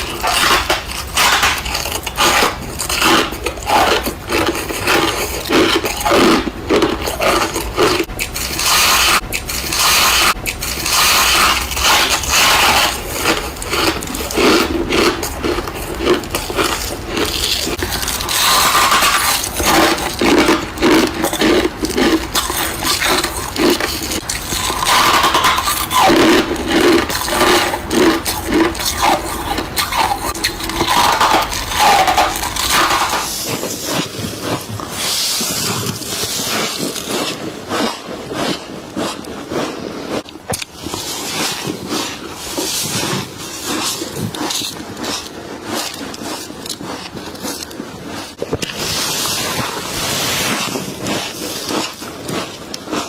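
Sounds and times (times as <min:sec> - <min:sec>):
frost crunching while eaten: 0:00.0 - 0:53.0.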